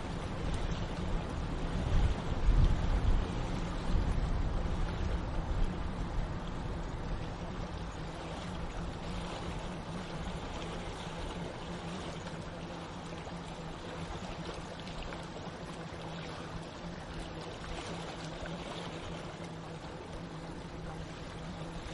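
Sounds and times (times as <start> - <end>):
low steady hum: 0.0 - 21.9
rushing water: 0.0 - 21.9.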